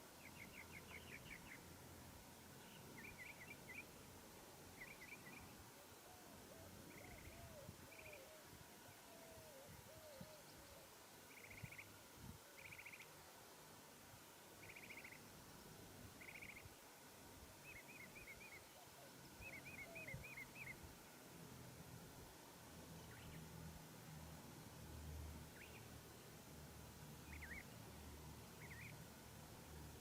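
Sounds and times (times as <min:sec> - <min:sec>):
faint birdsong: 0:00.0 - 0:21.6, 0:22.2 - 0:30.0.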